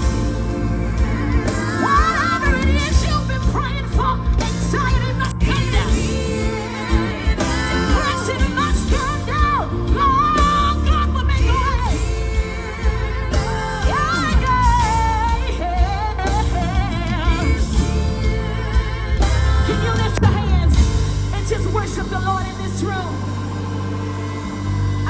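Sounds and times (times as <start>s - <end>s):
gospel band playing: 0.0s - 25.0s.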